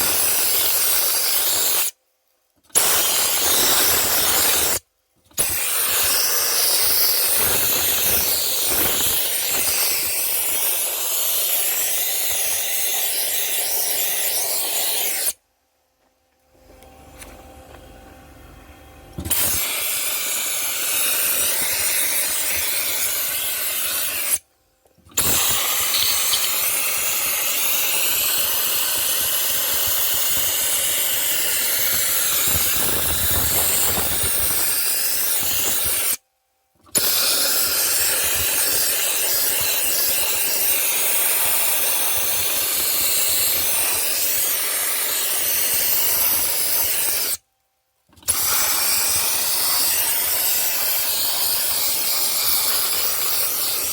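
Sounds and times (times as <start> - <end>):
dry ice blaster hissing: 0.0 - 2.0, 2.7 - 15.4, 19.2 - 24.4, 25.1 - 36.2, 36.9 - 47.4, 48.2 - 53.9.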